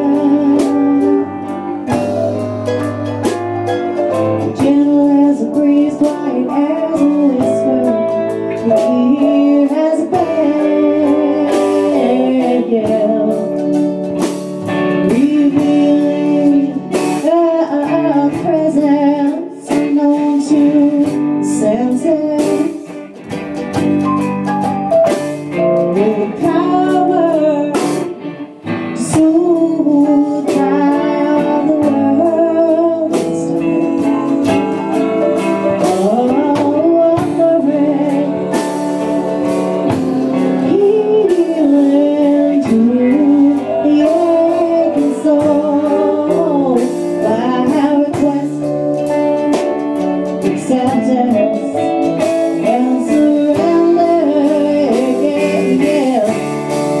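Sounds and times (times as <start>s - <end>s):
woman singing: 0.0s - 2.4s, 4.0s - 23.2s, 25.2s - 57.0s
guitar: 0.0s - 57.0s.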